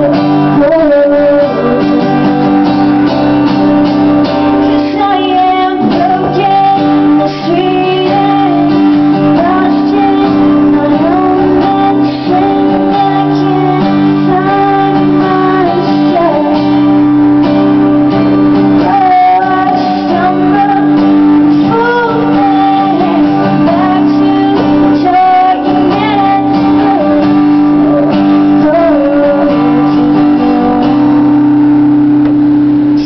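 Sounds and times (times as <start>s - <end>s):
woman singing: 0.0s - 3.0s, 4.3s - 31.5s
strummed acoustic guitar: 0.0s - 33.0s.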